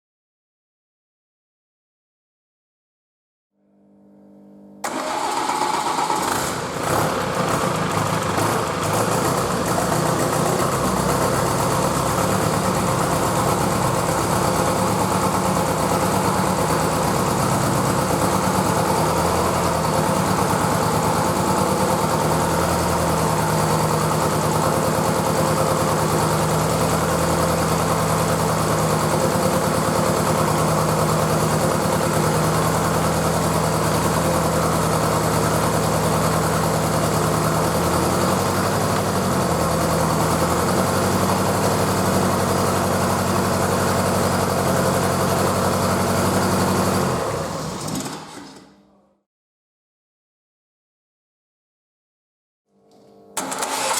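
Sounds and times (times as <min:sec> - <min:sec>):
diesel engine starting and idling: 0:04.8 - 0:48.4, 0:53.4 - 0:53.9.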